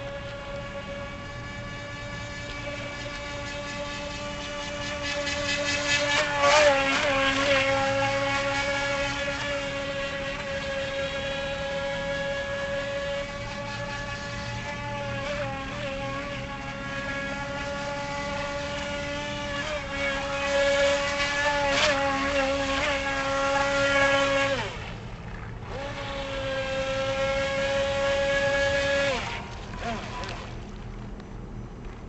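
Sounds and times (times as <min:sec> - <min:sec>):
electric motor whining: 0:00.0 - 0:30.8.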